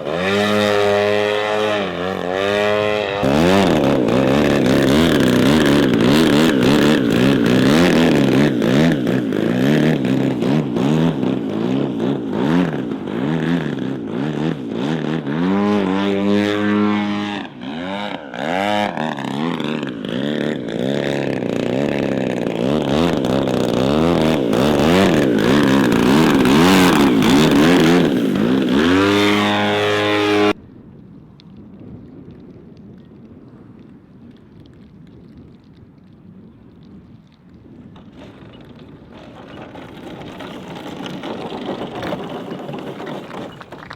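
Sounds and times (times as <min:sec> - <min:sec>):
wind buffeting microphone: 0:00.0 - 0:17.6, 0:18.2 - 0:43.9
model plane engine: 0:00.0 - 0:30.6, 0:38.0 - 0:43.9.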